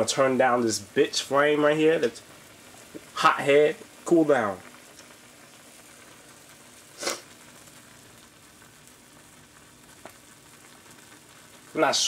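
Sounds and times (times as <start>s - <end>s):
water boiling with bubbling hiss: 0.0s - 12.0s.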